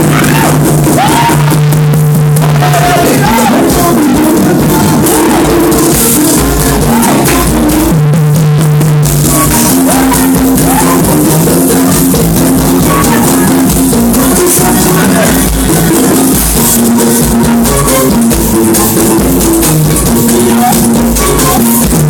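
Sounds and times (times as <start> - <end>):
loud music with drums and guitar: 0.0 - 22.0.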